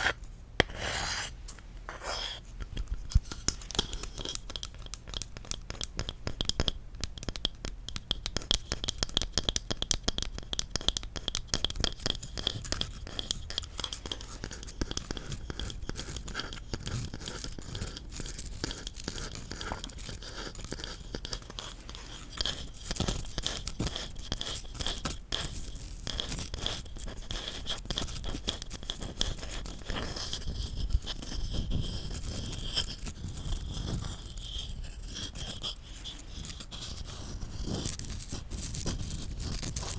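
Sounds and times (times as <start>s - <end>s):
tapping and scratching on wood: 1.9s - 39.9s.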